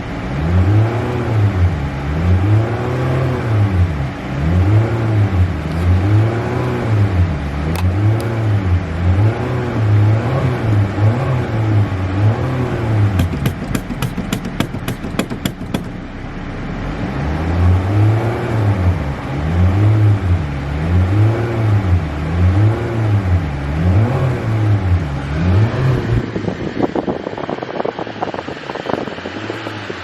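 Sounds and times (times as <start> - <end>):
car engine revving: 0.2 - 26.5.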